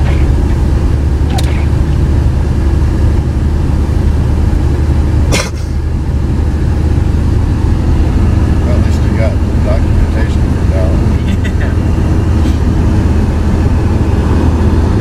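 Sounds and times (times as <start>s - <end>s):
car engine rumble and road noise: 0.0s - 15.0s.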